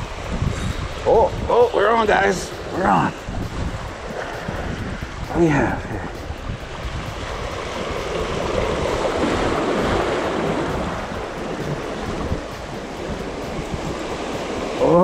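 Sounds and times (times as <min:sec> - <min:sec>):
ocean surf on shore: 0:00.0 - 0:15.0
wind on microphone: 0:00.0 - 0:15.0.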